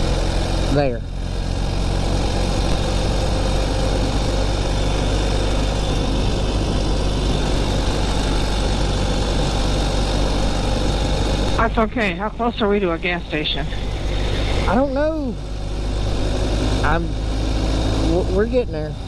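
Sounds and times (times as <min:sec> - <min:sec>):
motorcycle engine cruising: 0:00.0 - 0:19.0
wind and road noise: 0:00.0 - 0:19.0.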